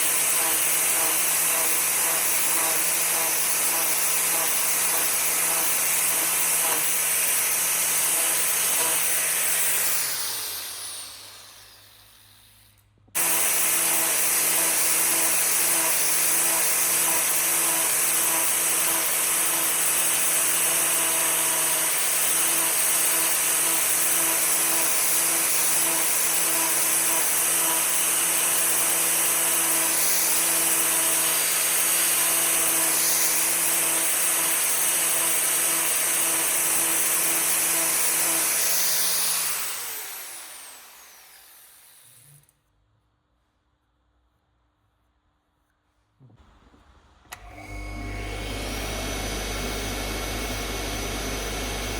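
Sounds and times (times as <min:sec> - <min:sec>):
power tool motor running: 0:00.0 - 0:42.5, 0:47.3 - 0:51.9.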